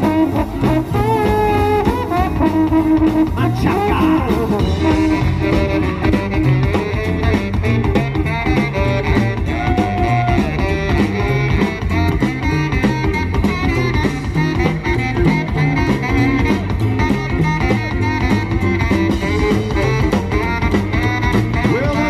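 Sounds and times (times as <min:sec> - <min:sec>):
swing big band playing: 0:00.0 - 0:22.0
upright bass line: 0:00.0 - 0:22.0.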